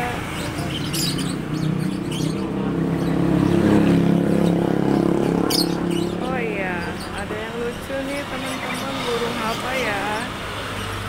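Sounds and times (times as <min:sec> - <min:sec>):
birds chirping: 0:00.0 - 0:11.0
passing vehicle engine hum: 0:00.0 - 0:11.0.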